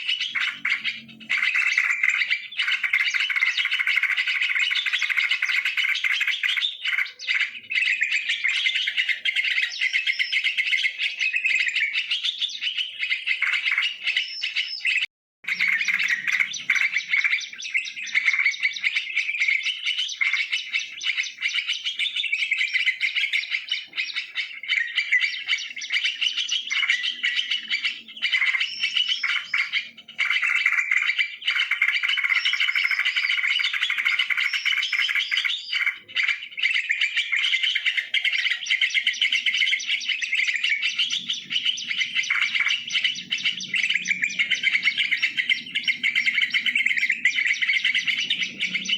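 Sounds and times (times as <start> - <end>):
bulbuls chattering chorus: 0.0 - 48.9.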